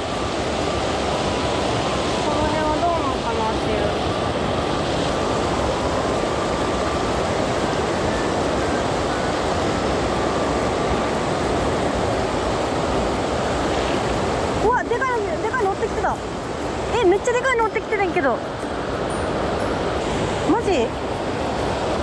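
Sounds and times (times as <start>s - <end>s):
water rushing over weir: 0.0s - 22.0s.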